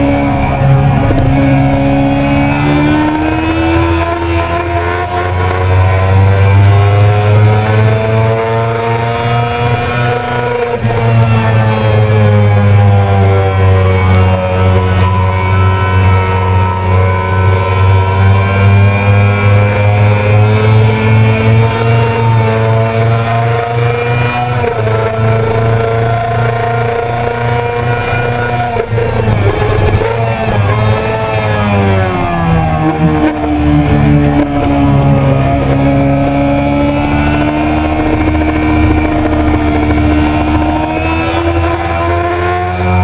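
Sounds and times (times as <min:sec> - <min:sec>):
motorcycle engine running hard: 0:00.0 - 0:43.0.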